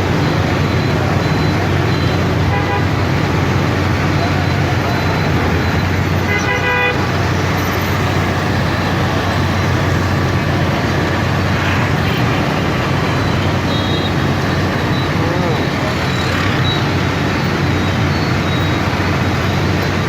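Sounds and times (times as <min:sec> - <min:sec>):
engine and traffic noise: 0:00.0 - 0:20.0.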